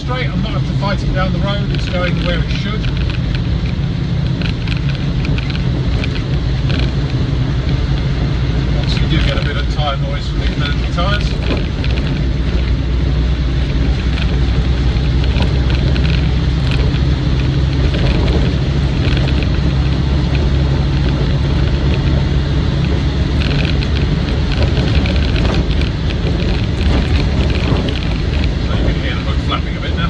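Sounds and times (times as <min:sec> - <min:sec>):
diesel engine droning: 0:00.0 - 0:30.0
tyre noise: 0:00.0 - 0:30.0.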